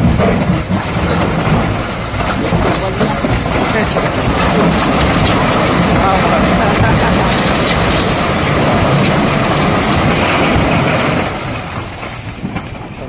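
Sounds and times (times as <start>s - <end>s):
rocks rumbling and clattering: 0.0s - 13.0s
truck engine running: 0.0s - 13.0s.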